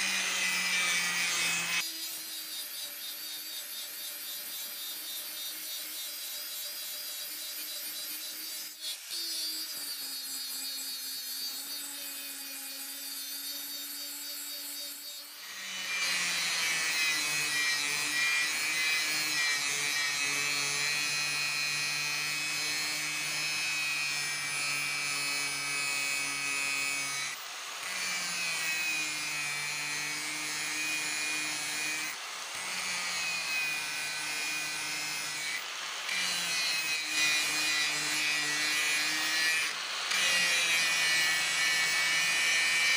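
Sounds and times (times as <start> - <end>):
angle grinder grinding steel: 0.0 - 42.9.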